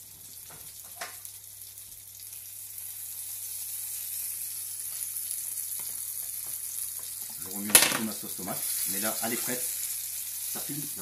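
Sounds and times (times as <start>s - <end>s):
tomatoes sizzling in a frying pan: 0.0s - 11.0s.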